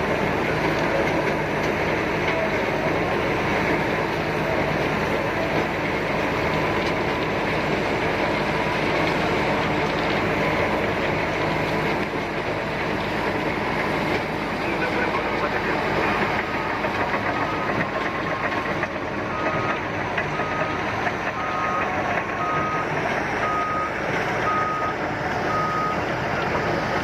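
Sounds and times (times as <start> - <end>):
bulldozer clatter: 0.0 - 27.0
bulldozer diesel engine drone: 0.0 - 27.0.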